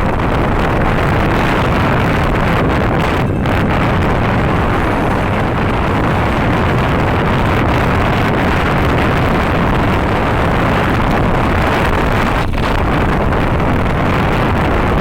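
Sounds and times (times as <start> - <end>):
vehicle rumbling: 0.0 - 15.0
wind buffeting microphone: 0.0 - 15.0.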